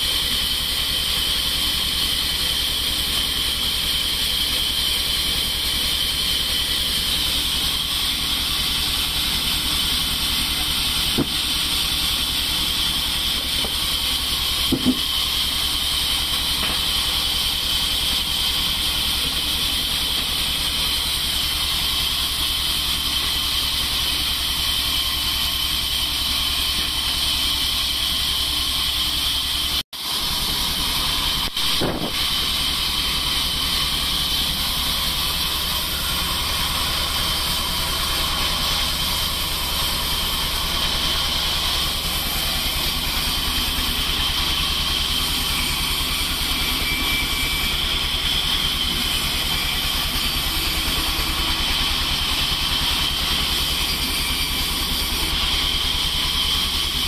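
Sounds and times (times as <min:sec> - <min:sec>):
band sawmill running: 0:00.0 - 0:57.0.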